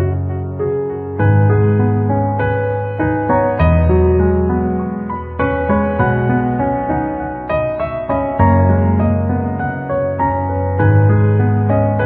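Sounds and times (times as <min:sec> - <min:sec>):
soft keyboard chords: 0:00.0 - 0:12.0.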